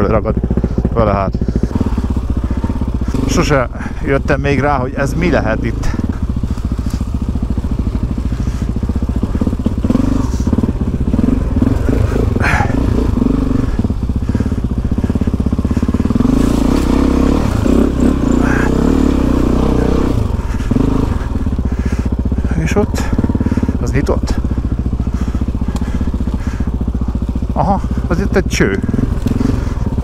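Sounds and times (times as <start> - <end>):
motorcycle engine at low revs: 0.0 - 30.0.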